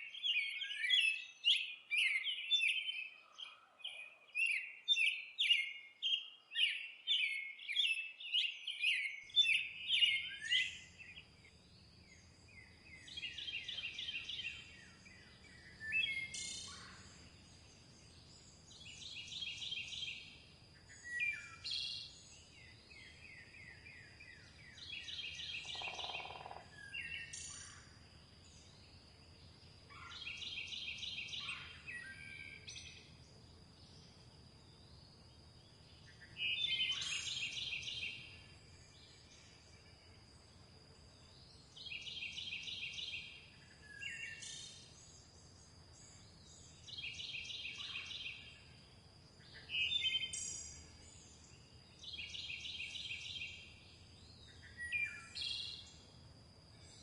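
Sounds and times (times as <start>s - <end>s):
songbird singing rapid notes: 0.0s - 17.4s, 18.0s - 27.8s, 29.9s - 33.2s, 35.7s - 39.7s, 41.3s - 48.6s, 49.4s - 56.0s.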